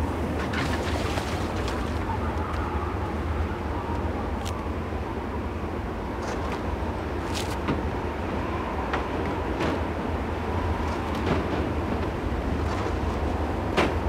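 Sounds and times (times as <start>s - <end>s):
strong storm wind: 0.0s - 14.0s.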